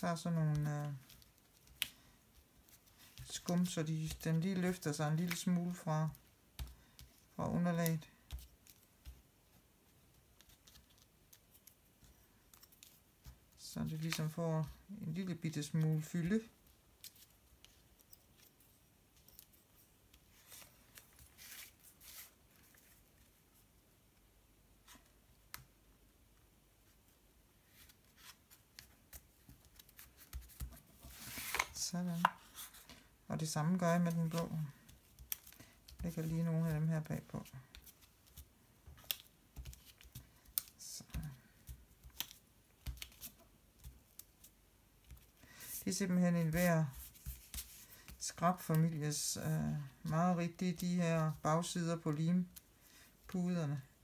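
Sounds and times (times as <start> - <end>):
paper and card rustling: 0.1 - 9.2, 10.1 - 23.4, 27.6 - 53.9.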